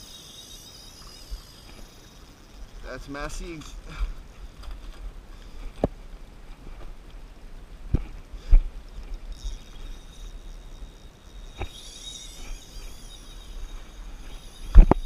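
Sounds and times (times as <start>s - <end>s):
fishing reel drag buzzing: 0.0s - 5.8s, 8.3s - 15.0s.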